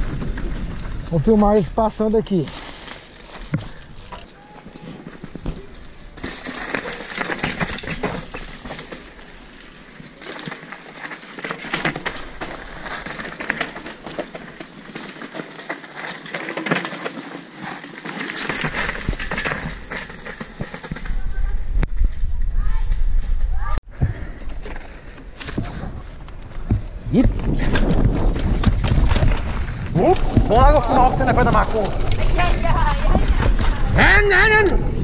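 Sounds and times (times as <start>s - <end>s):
gravel crunching underfoot: 0.0s - 34.1s.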